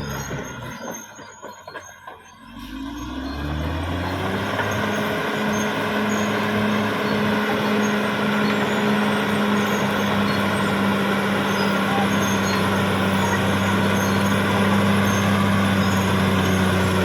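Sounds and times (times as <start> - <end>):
bulldozer diesel engine revving: 0.0 - 17.0.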